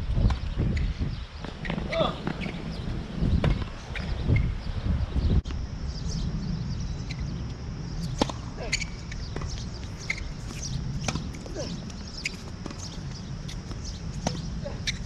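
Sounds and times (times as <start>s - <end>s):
steady low rumble: 2.2s - 15.0s.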